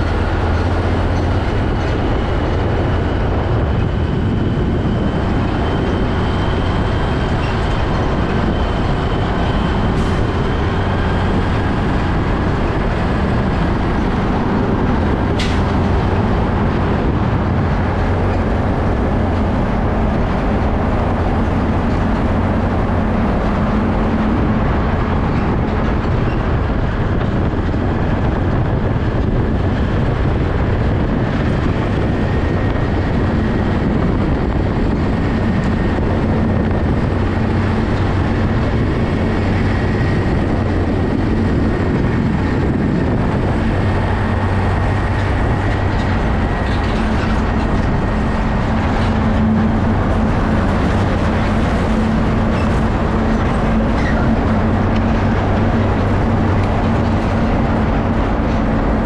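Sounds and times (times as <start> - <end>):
diesel truck engine hum: 0.0 - 59.0
tyre and road noise: 0.0 - 59.0.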